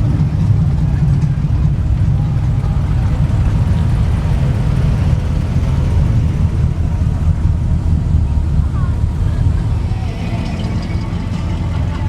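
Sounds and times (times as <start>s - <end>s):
car engines cruising by: 0.0s - 12.0s.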